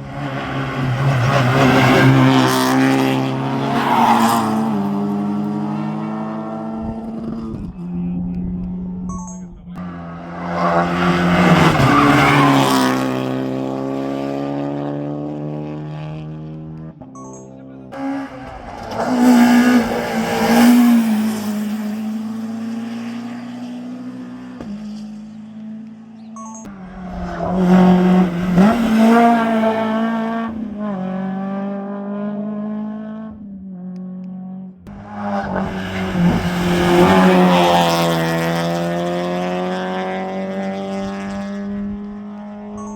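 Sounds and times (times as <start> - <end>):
rally cars passing at speed: 0.0 - 9.1, 9.8 - 42.9.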